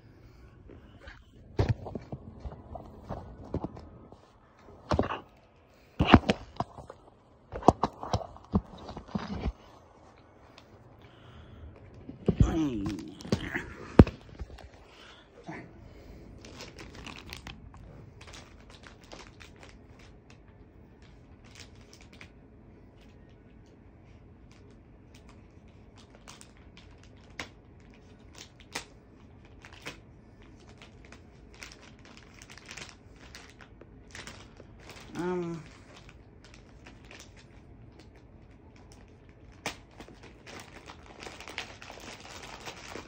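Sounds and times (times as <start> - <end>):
plastic packaging crinkling: 1.2 - 15.2, 16.0 - 23.4, 24.0 - 43.0.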